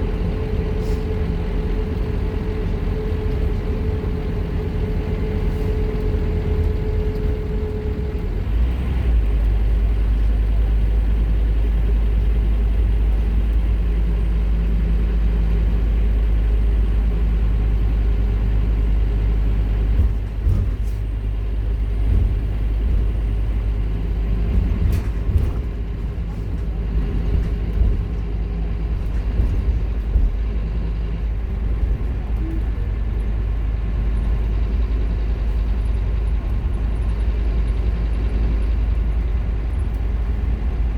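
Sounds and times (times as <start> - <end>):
bus body rattles: 0.0 - 40.9
bus engine drone: 0.0 - 40.9.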